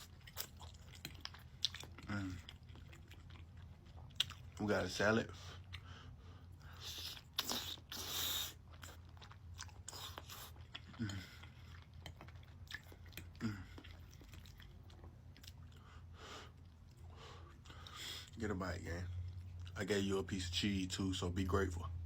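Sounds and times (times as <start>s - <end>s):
chewing and crunching salad: 0.0s - 20.6s.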